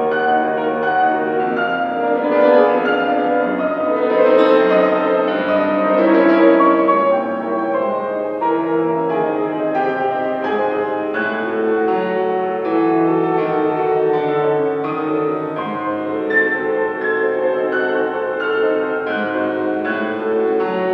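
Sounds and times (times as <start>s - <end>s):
solo classical piano: 0.0s - 20.9s.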